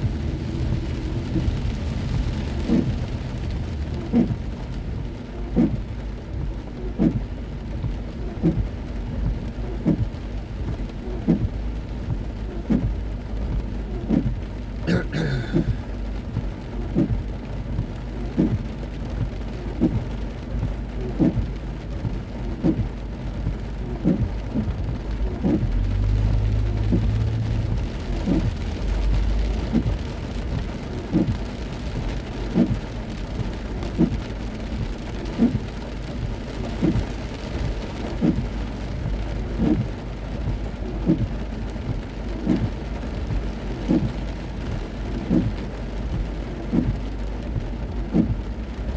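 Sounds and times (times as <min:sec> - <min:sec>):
heavy rain on a car: 0:00.0 - 0:48.9
road and engine rumble: 0:00.0 - 0:48.9.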